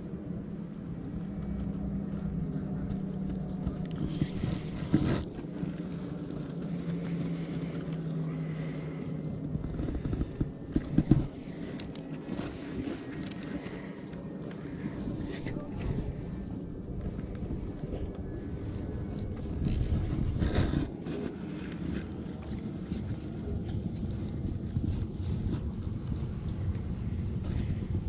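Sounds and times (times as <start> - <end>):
boat engine drone: 0.0 - 28.0
wind on microphone: 0.0 - 28.0.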